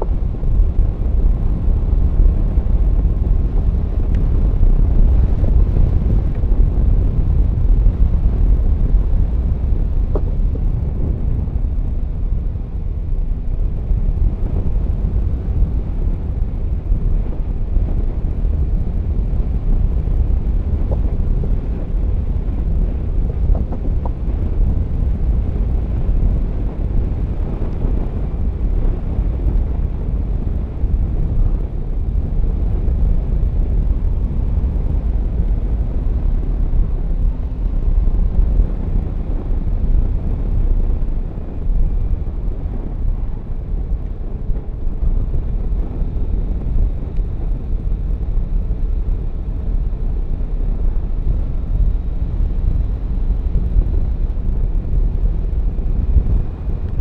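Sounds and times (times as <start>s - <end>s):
road noise: 0.0s - 57.0s
wind rumble on microphone: 0.0s - 57.0s.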